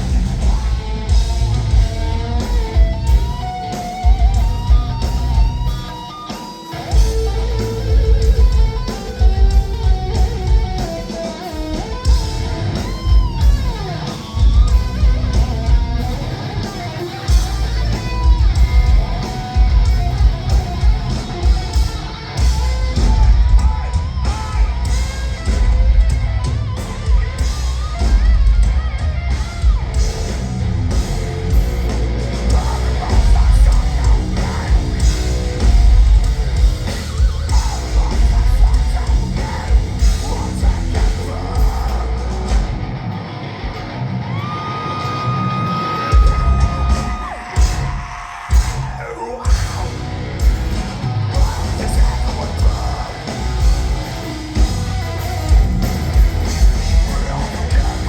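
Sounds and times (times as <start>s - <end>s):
pounding drums: 0.0s - 43.0s, 46.0s - 58.0s
distorted guitars: 0.0s - 58.0s
yelled vocals: 0.0s - 58.0s.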